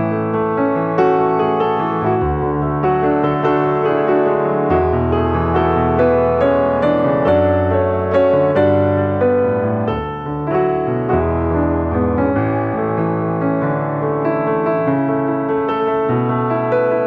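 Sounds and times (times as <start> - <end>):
gentle piano piece: 0.0 - 17.0.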